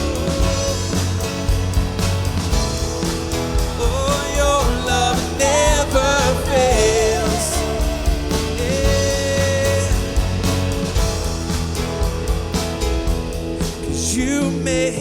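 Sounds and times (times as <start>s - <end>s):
worship band playing: 0.0s - 15.0s.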